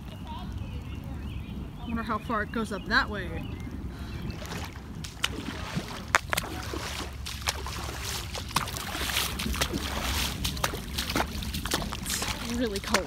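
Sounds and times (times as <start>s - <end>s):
floodwater splashing: 0.0s - 13.0s
rain falling on water: 0.0s - 13.0s.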